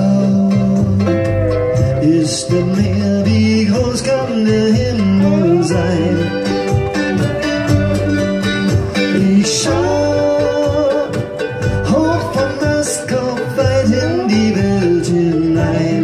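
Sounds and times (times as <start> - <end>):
acoustic string band playing: 0.0 - 16.0.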